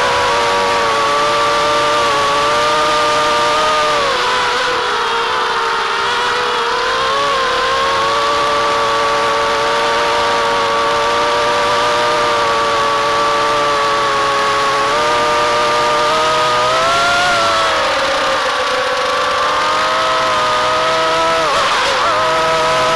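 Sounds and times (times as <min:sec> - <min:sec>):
quadcopter motors whining: 0:00.0 - 0:22.9.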